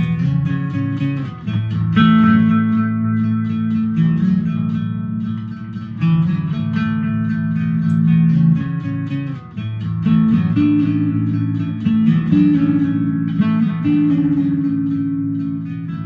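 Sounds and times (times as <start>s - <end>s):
acoustic guitar picking: 0.0s - 16.0s
held low notes: 0.0s - 16.0s.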